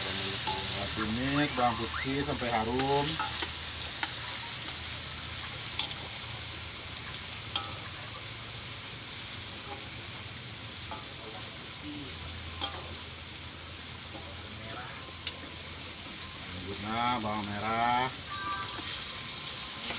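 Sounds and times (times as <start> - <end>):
garlic sizzling in hot oil: 0.0 - 19.9.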